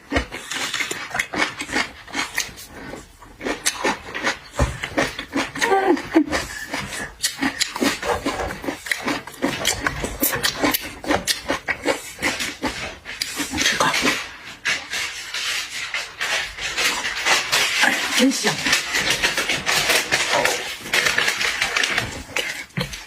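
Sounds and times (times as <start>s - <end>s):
wet chewing and lip-smacking: 0.0s - 23.0s.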